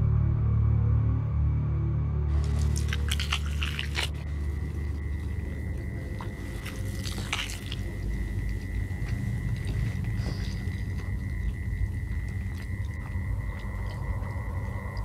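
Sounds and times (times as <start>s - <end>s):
low steady drone: 0.0s - 15.0s
person chewing meat off bone: 2.3s - 15.0s.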